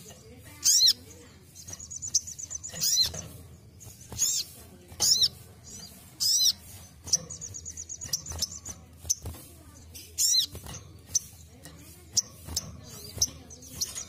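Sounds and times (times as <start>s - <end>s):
bird chattering trill: 0.0s - 14.0s
bird sharp high calls: 0.0s - 14.0s.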